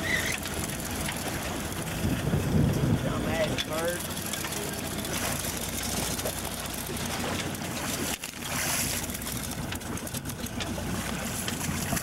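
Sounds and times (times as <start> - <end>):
low steady hum: 0.0 - 12.0
water splashing along boat hull: 0.0 - 12.0.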